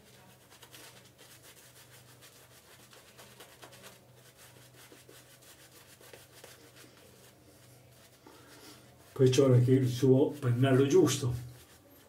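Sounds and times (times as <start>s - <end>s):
shaving brush rubbing lather: 0.0s - 12.0s.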